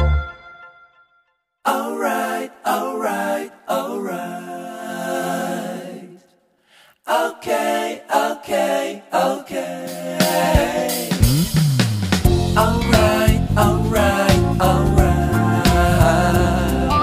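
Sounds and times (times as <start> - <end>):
song with singing voices: 1.7 - 11.6, 12.3 - 17.0.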